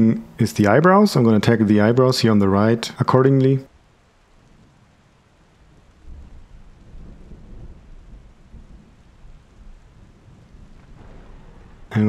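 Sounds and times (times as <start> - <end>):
faint hiss: 0.0 - 12.0
low uneven rumble: 0.0 - 12.0.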